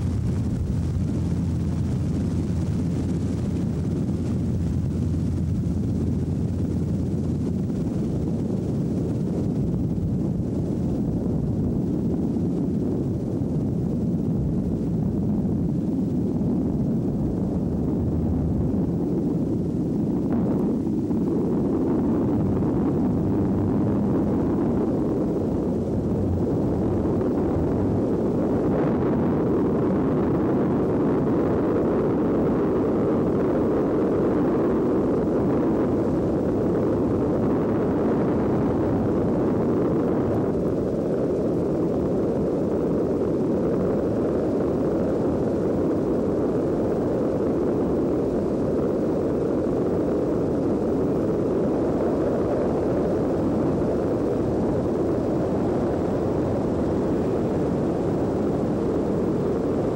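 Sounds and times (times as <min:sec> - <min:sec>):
helicopter engine and rotor drone: 0:00.0 - 0:59.8.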